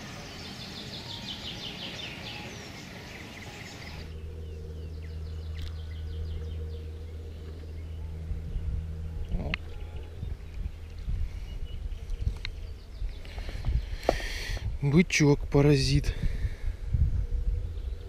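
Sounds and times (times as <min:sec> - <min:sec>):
small birds singing: 0:00.0 - 0:18.0
steady low hum: 0:00.0 - 0:18.0.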